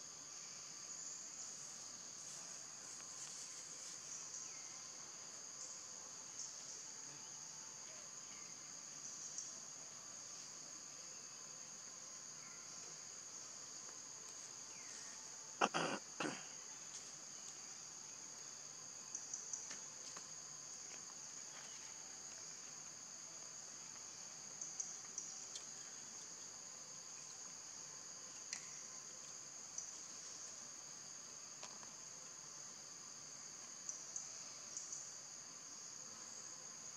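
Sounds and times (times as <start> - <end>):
insects droning: 0.0 - 36.9.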